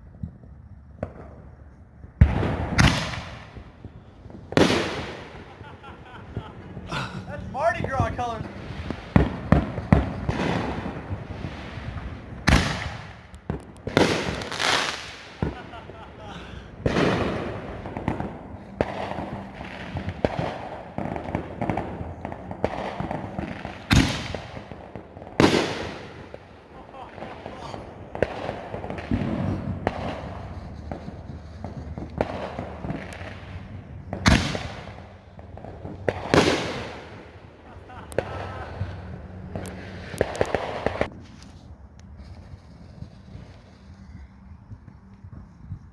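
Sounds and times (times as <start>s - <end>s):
firework crackling: 0.0s - 45.9s
firework bangs: 0.2s - 41.4s
firework booms: 1.0s - 1.6s, 2.2s - 41.1s.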